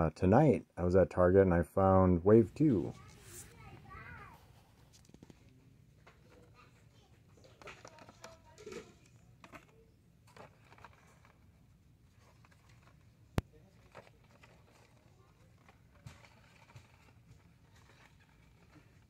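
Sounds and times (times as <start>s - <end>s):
plastic and card rustling: 2.7s - 19.0s.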